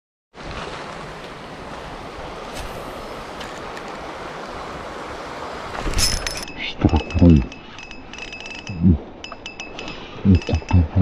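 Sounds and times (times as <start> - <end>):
river running over stones: 0.4 - 11.0.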